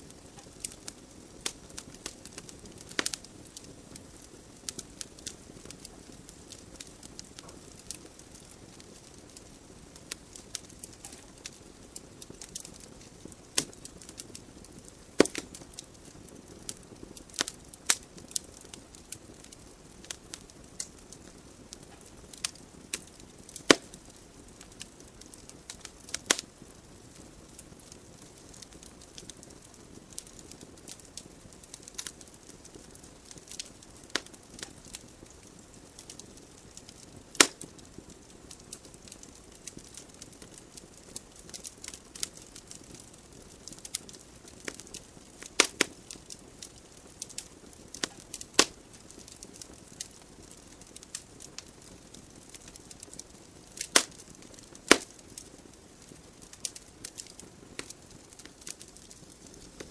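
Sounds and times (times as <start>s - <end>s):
fire hissing: 0.0s - 59.9s
logs crackling and popping: 0.0s - 59.9s.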